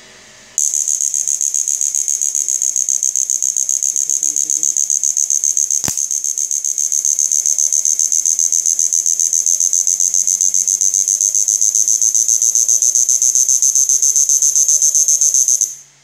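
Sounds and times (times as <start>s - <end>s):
high-pitched pulsing electrical whine: 0.0s - 16.0s.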